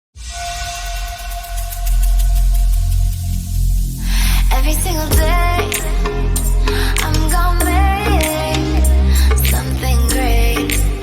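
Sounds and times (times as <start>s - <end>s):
electronic intro music: 0.2s - 11.0s
heavy bass: 0.3s - 11.0s.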